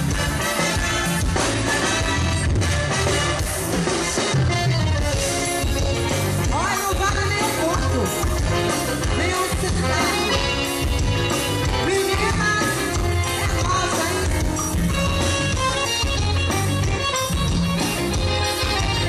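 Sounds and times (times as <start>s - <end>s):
accordion: 0.0s - 19.0s
electric guitar: 0.0s - 19.0s.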